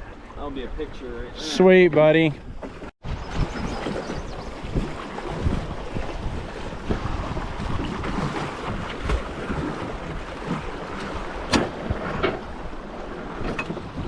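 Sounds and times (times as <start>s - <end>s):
wind buffeting microphone: 0.0s - 14.0s
rushing river water: 2.7s - 14.0s.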